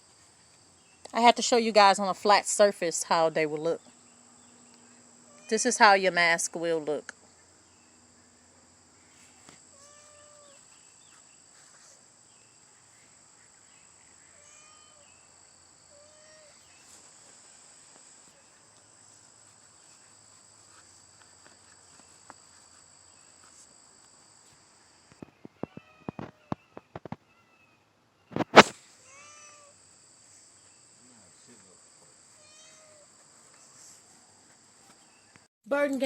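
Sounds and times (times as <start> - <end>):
faint insect chirps: 0.0 - 35.5.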